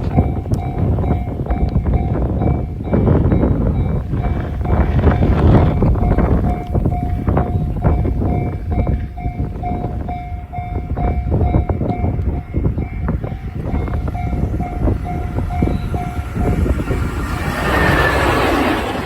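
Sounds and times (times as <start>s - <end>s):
freight train rolling past: 0.0s - 19.0s
wheels clacking over rail joints: 0.0s - 19.0s.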